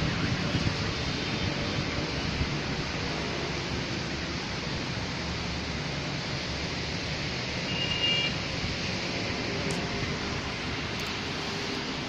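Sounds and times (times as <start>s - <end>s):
steady rain: 0.0s - 12.0s
traffic on wet roads: 0.0s - 12.0s.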